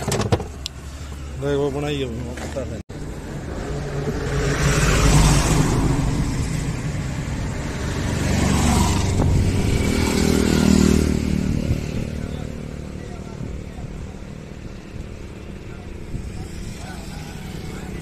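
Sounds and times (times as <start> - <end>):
vehicles passing close: 0.0 - 18.0
motorcycle passing: 3.0 - 18.0.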